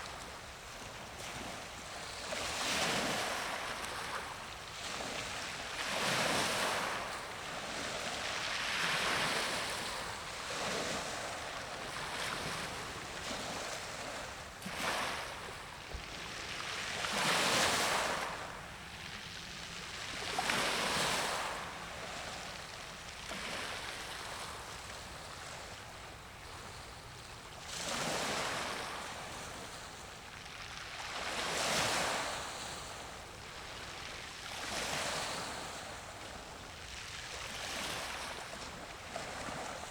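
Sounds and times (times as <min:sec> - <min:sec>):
waves washing on shore: 0:00.0 - 0:39.9.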